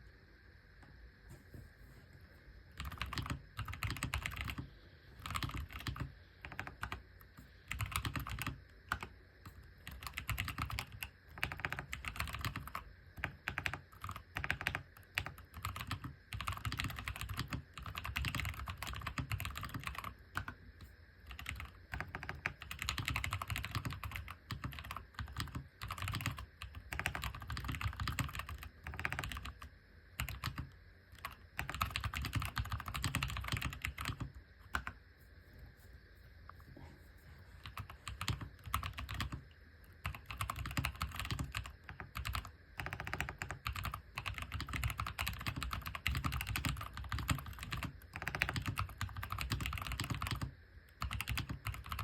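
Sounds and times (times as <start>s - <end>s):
mechanical keyboard typing: 2.8s - 7.0s, 7.6s - 20.6s, 21.3s - 35.0s, 37.6s - 39.4s, 40.0s - 52.0s.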